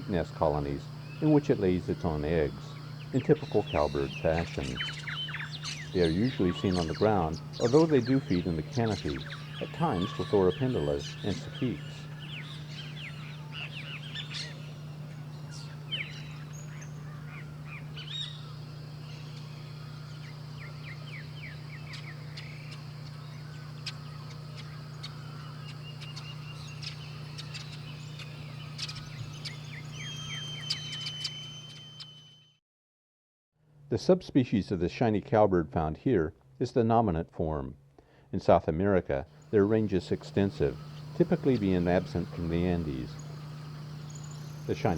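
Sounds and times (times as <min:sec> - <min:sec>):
birds chirping: 0:00.0 - 0:32.4, 0:39.3 - 0:44.9
steady low hum: 0:00.0 - 0:32.4, 0:39.0 - 0:44.9
long bird whistle: 0:00.0 - 0:32.6, 0:39.3 - 0:44.9.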